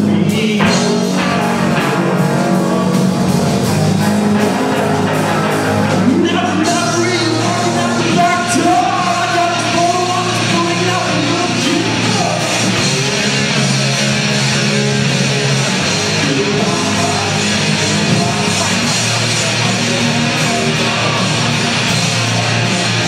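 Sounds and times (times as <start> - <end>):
distorted electric guitar: 0.0 - 23.0
loud live rock music: 0.0 - 23.0.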